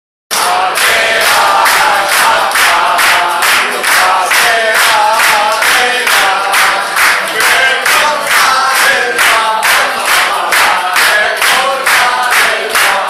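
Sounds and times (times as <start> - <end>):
crowd singing together: 0.3 - 13.0
hands clapping in time: 0.3 - 13.0.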